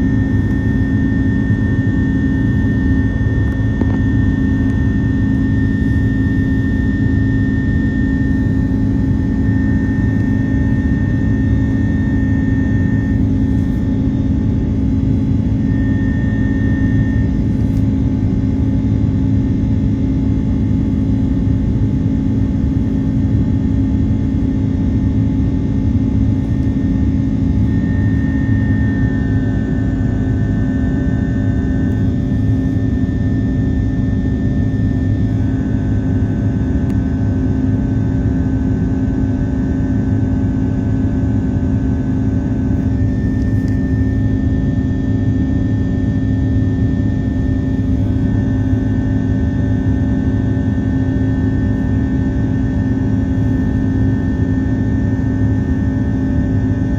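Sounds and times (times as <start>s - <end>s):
faint high whine: 0.0s - 56.9s
jet engine cabin rumble: 0.0s - 56.9s.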